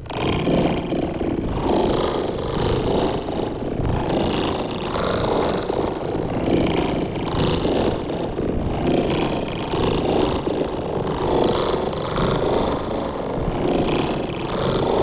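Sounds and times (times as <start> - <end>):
synthesized rough low drone: 0.0 - 15.0.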